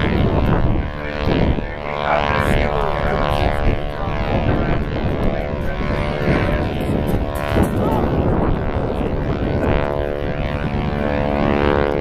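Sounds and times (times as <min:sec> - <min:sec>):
propeller plane engine drone: 0:00.0 - 0:12.0
wind buffeting microphone: 0:00.0 - 0:12.0.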